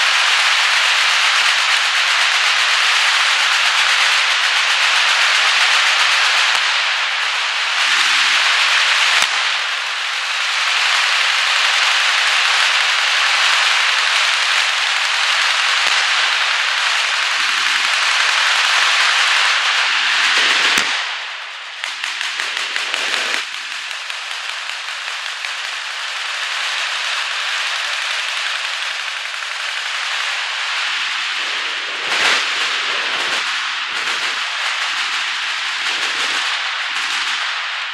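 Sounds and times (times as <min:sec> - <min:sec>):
machine gun fire: 0:00.0 - 0:37.9.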